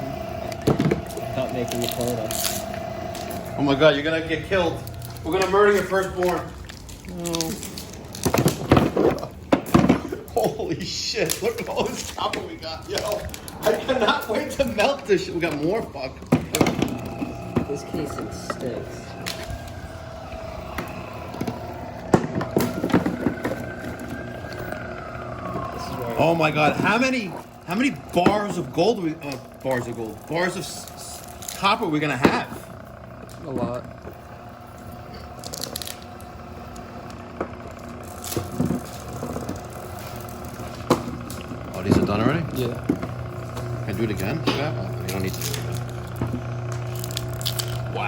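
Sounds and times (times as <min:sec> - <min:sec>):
wire stripping machine whining: 0:00.0 - 0:48.0.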